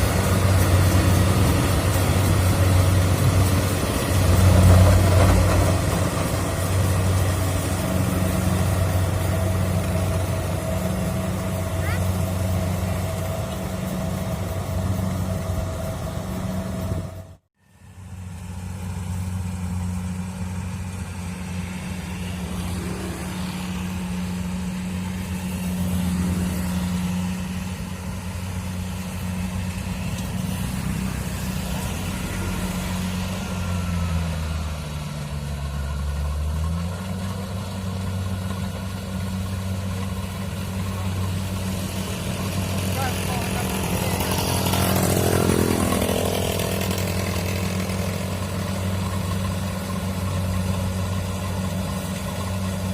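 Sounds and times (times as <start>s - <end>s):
combine harvester diesel engine: 0.0s - 52.9s.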